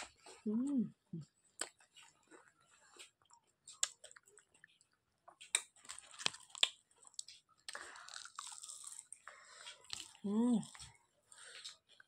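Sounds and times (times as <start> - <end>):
chewing crisp fried fish: 1.2 - 12.0.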